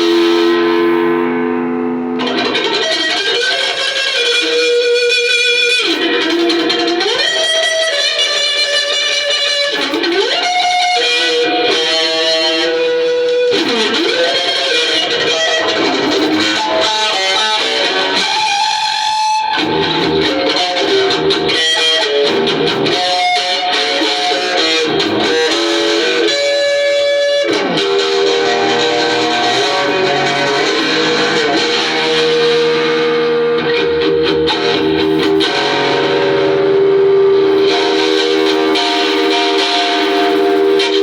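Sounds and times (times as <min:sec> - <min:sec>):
electric guitar bending notes: 0:00.0 - 0:41.0.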